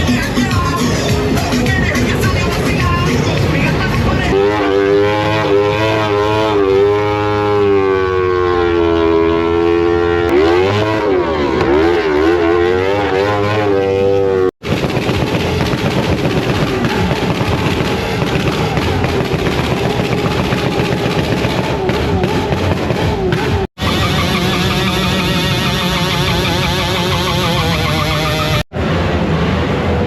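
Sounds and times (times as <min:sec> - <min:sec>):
motorcycle engine revving: 0:00.0 - 0:30.0
rough noisy engine: 0:00.0 - 0:30.0.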